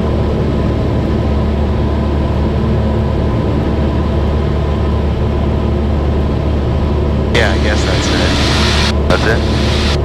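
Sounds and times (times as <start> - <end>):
plane engine droning in cabin: 0.0 - 10.0.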